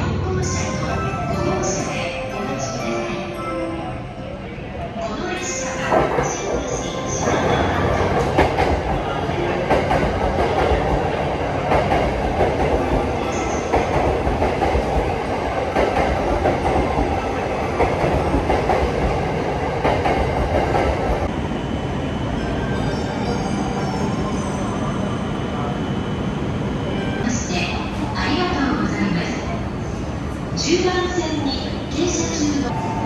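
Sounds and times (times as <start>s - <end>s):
train rumble: 4.0s - 33.0s.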